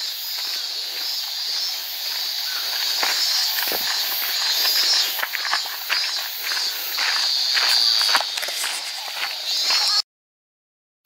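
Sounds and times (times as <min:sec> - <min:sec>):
footsteps on dirt trail: 0:00.0 - 0:10.0
insects buzzing: 0:00.0 - 0:10.0
pulsing chirp: 0:00.0 - 0:10.0.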